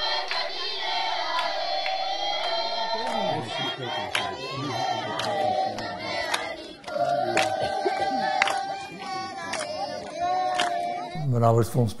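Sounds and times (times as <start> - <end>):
children singing in unison: 0.0 - 11.2
sharp hand claps: 0.2 - 4.4, 5.1 - 10.9.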